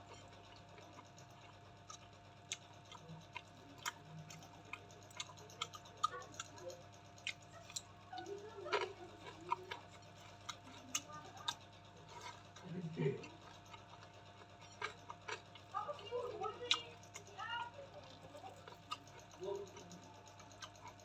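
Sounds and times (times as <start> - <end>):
mouth clicks and lip smacks chewing: 0.1 - 12.6, 13.3 - 15.8, 18.0 - 21.0.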